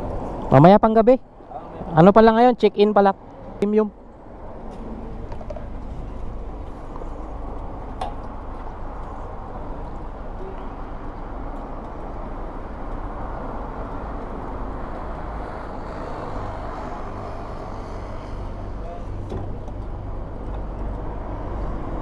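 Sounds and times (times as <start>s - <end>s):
road and wind noise: 0.0s - 22.0s
vehicle rumble: 0.0s - 22.0s.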